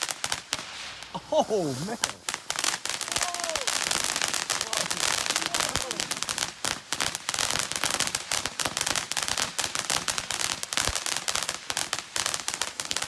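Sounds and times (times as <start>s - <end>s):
firework crackling pops: 0.0s - 13.0s.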